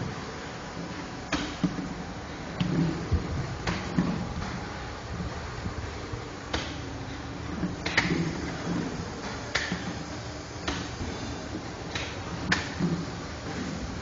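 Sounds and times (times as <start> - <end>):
printing machine humming: 0.0 - 14.0.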